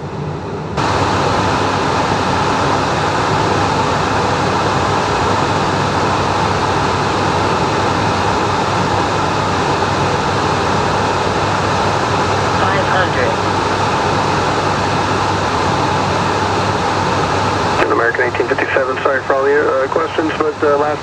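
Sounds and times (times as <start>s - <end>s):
low hum: 0.0s - 21.0s
jet cockpit rushing noise: 0.8s - 21.0s.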